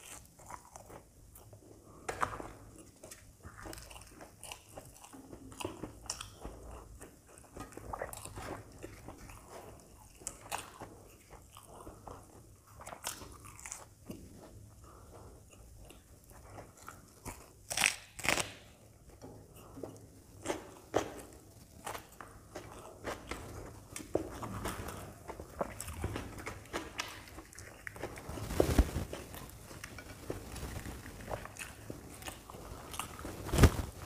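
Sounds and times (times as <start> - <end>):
chewing crisp fried bread: 0.0 - 34.0.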